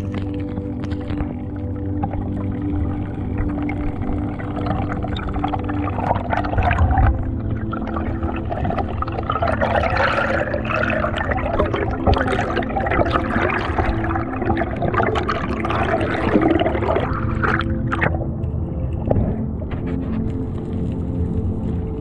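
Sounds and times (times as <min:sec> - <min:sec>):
air bubbles gurgling underwater: 0:00.0 - 0:20.8.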